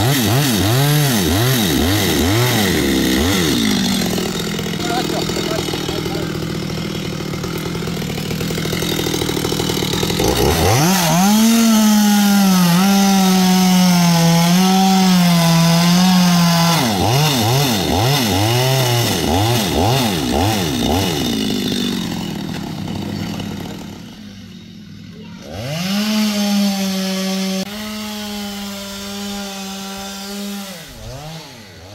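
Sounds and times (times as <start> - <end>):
chainsaw revving: 0.0 - 31.9.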